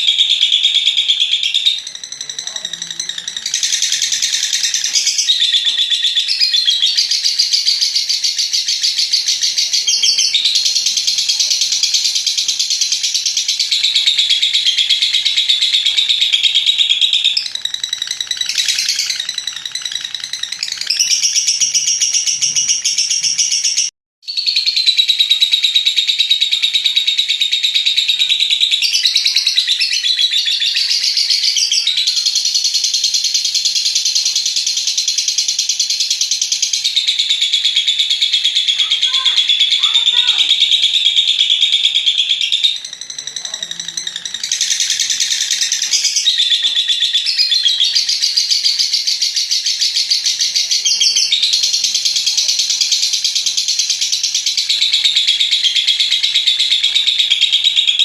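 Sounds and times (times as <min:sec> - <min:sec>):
lovebird chattering trill: 0:00.0 - 0:58.0.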